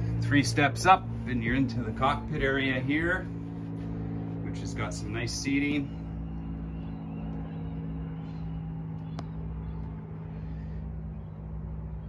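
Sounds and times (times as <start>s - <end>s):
low rumble: 0.0s - 12.0s
steady mechanical hum: 0.0s - 12.0s.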